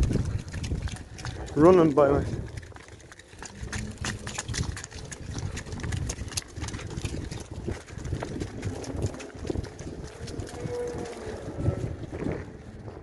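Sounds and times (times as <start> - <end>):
cow hooves clopping on concrete: 0.0 - 13.0.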